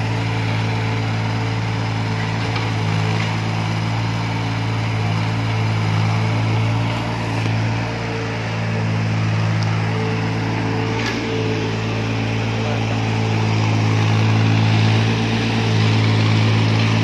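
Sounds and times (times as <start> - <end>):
excavator engine humming: 0.0 - 17.0.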